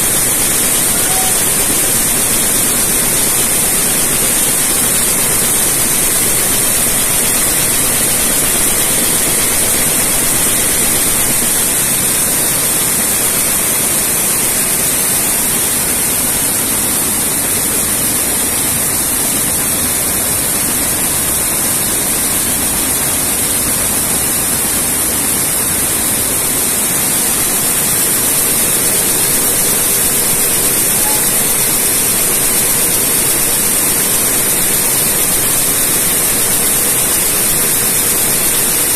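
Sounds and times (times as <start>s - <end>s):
weaving loom running: 0.0s - 38.9s.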